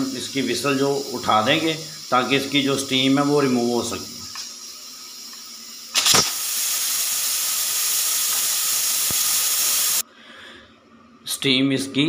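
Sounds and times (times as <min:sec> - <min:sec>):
pressure cooker steam hissing: 0:00.0 - 0:10.0.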